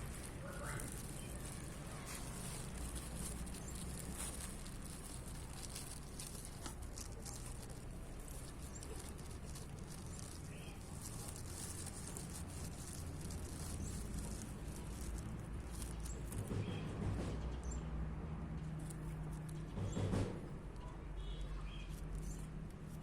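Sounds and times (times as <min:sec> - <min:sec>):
kitten paws pattering and scratching: 0:00.0 - 0:23.0.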